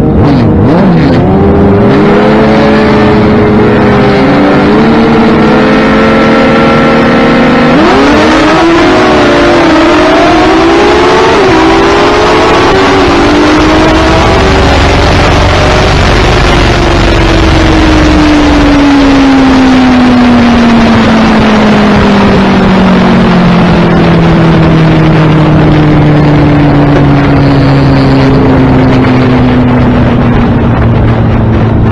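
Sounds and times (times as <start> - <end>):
motorcycle engine running: 0.0 - 31.9
wind rush on microphone: 0.0 - 31.9.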